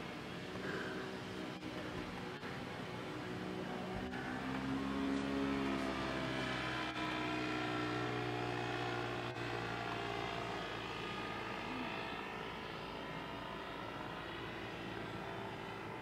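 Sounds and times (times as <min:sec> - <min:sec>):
paramotor engine droning overhead: 0:00.0 - 0:16.0.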